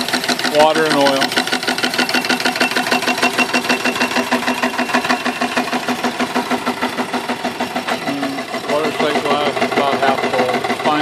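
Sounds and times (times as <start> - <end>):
steam engine running: 0.0 - 11.0.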